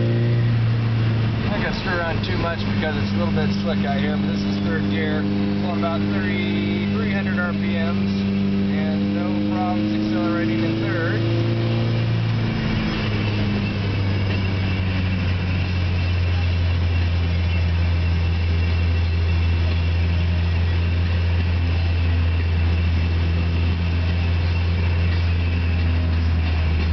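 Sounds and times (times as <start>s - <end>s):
car engine droning from inside: 0.0s - 26.9s.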